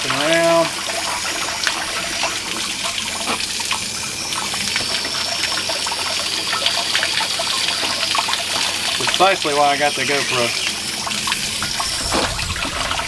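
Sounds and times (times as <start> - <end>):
water running and splashing: 0.0 - 13.0.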